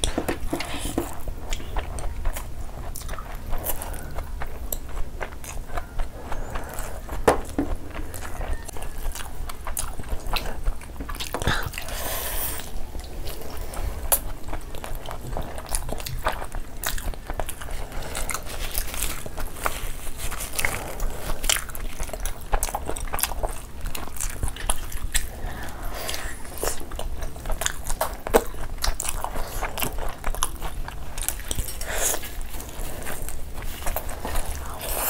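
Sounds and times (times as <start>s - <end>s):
chewing and biting food: 0.0s - 35.0s
wet eating noises: 0.0s - 35.0s.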